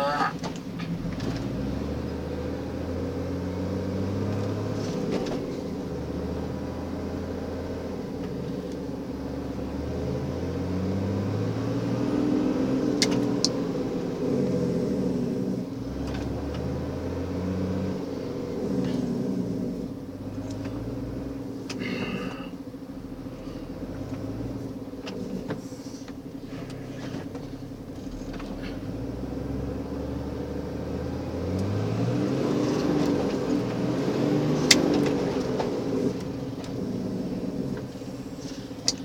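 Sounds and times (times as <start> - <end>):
car engine running at low speed: 0.0 - 39.0.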